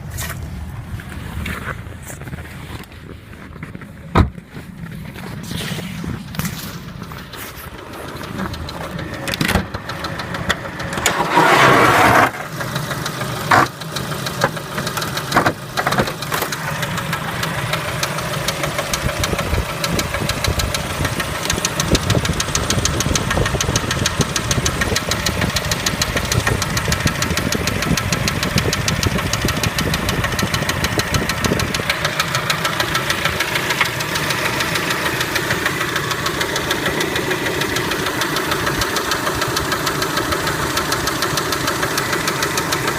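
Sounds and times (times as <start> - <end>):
car engine knocking: 6.3 - 42.9.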